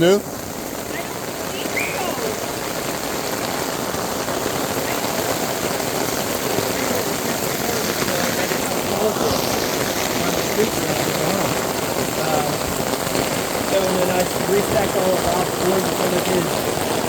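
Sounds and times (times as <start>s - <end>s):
heavy rain on hard surfaces: 0.0s - 17.0s.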